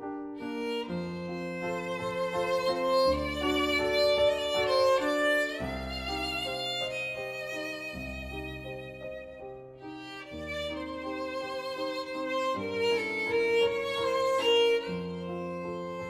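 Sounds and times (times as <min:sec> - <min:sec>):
violin slow melody: 0:00.0 - 0:16.0.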